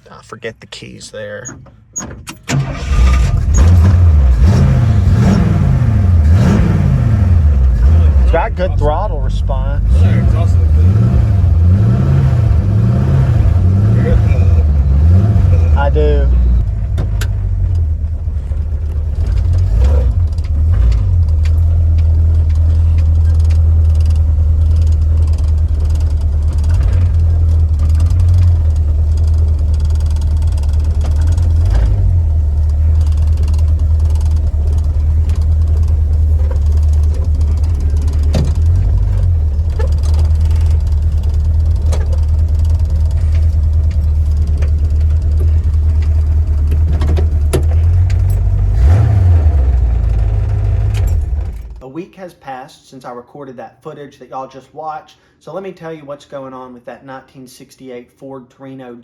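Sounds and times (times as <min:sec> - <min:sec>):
car engine rumbling: 0:00.0 - 0:51.8.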